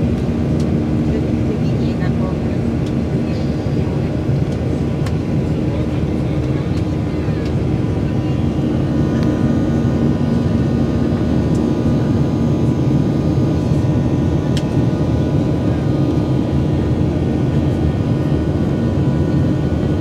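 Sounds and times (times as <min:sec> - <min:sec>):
jet airliner engine rumble: 0:00.0 - 0:20.0.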